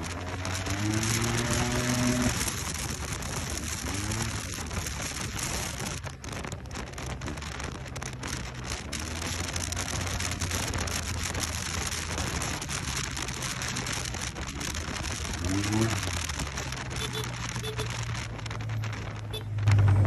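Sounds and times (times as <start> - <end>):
road noise: 0.0 - 20.0
scooter engine drone: 0.0 - 20.0
wind rushing over microphone: 0.0 - 20.0.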